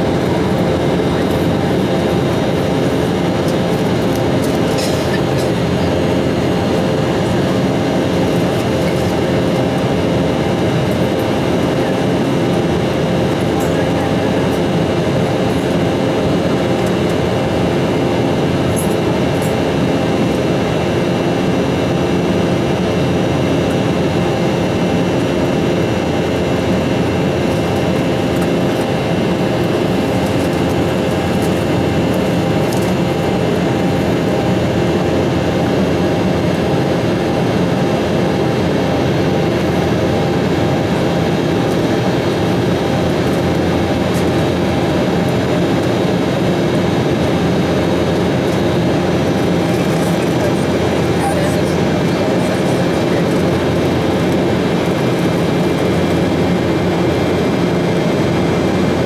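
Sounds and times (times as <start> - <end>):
jet engines at climb power: 0.0 - 59.0.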